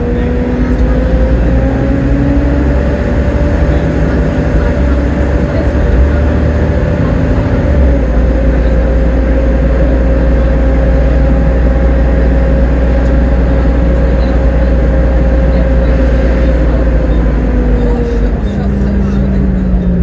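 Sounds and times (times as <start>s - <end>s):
bus engine rumbling: 0.0s - 20.0s
high whine: 0.0s - 20.0s.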